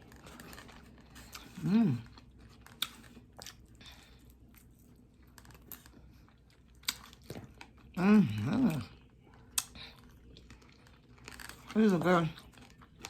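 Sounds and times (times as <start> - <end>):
chewing crispy food: 0.0 - 13.0.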